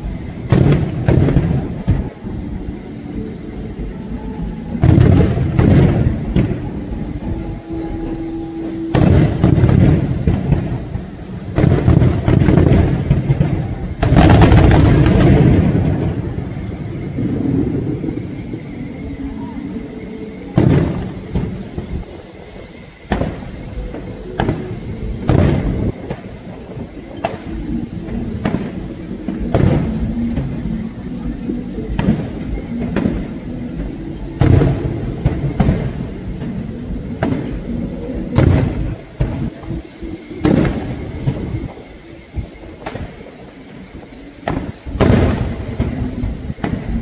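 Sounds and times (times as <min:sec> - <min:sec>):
sharp firework bangs: 0:00.0 - 0:03.3, 0:04.8 - 0:18.5, 0:20.6 - 0:43.4, 0:44.4 - 0:47.0
fireworks booming with echo: 0:00.0 - 0:47.0.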